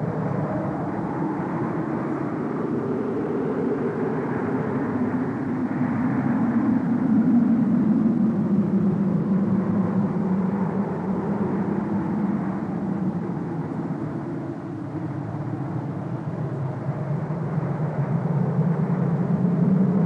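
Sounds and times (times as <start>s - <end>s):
howling wind: 0.0s - 20.0s.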